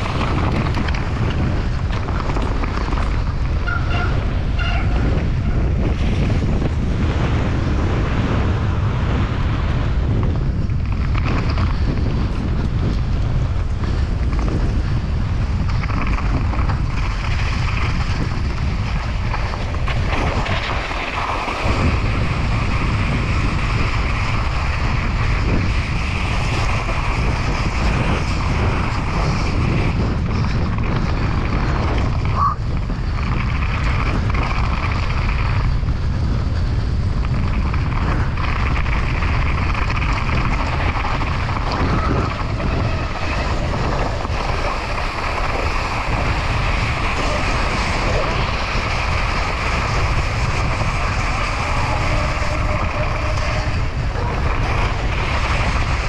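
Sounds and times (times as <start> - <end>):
tyres rolling over snow and grass: 0.0 - 3.7, 5.3 - 56.0
wind buffeting microphone: 0.0 - 56.0.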